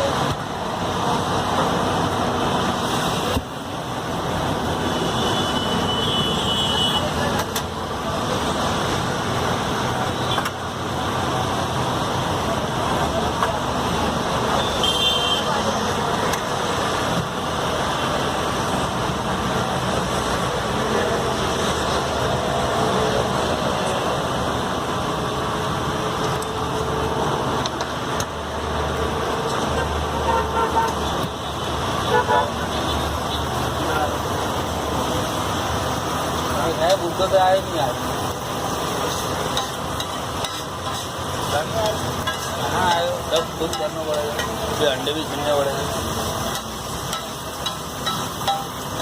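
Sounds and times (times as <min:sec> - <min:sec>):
roadside traffic: 0:00.0 - 0:49.0
vehicle engines running: 0:07.0 - 0:14.8, 0:15.4 - 0:49.0.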